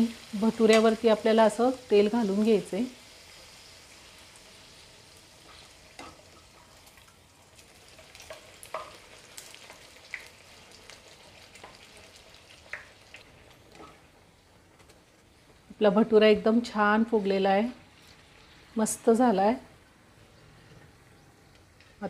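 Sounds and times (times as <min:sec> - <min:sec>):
dough sizzling in hot oil: 0:00.0 - 0:14.6, 0:16.5 - 0:19.6
crackles and pops of frying: 0:00.0 - 0:19.6.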